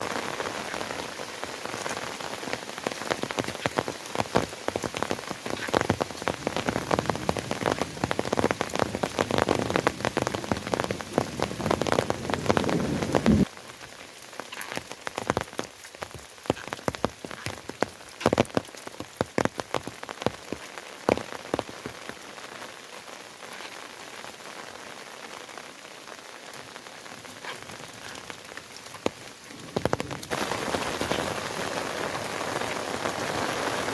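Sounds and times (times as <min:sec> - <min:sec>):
rain drops clicking on surface: 0:00.0 - 0:33.9.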